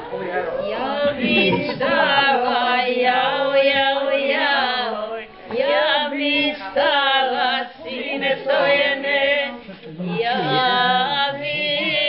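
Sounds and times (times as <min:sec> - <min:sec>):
group singing together: 0:00.0 - 0:12.0.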